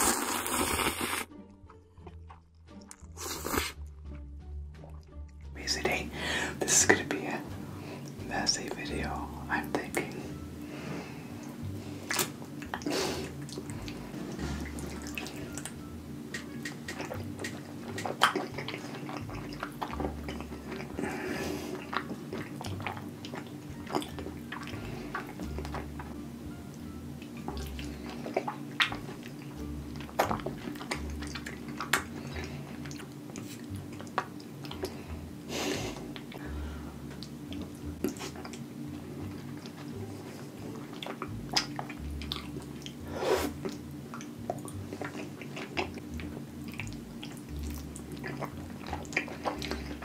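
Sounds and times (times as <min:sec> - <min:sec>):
wet chewing and slurping: 0:00.0 - 0:04.0, 0:06.6 - 0:50.0
background music with bass: 0:01.1 - 0:50.0.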